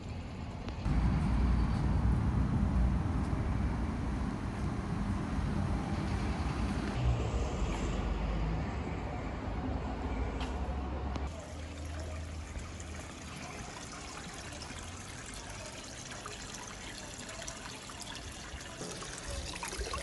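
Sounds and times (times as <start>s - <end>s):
street ambience low rumble: 0.0s - 20.0s.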